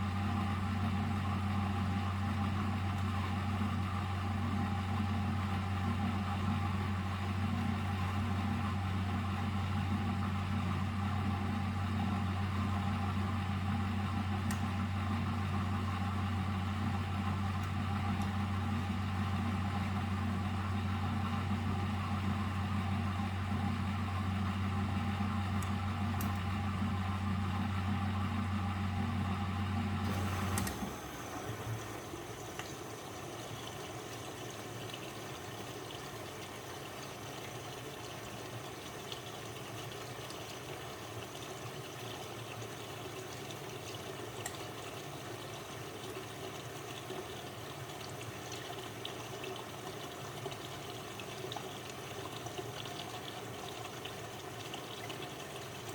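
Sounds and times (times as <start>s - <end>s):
washing machine hum: 0.0s - 55.9s
water running inside machine: 0.0s - 55.9s.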